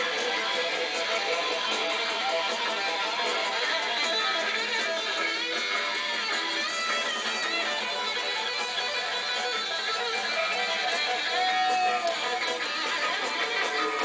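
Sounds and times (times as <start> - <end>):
background guitar music: 0.0 - 14.0.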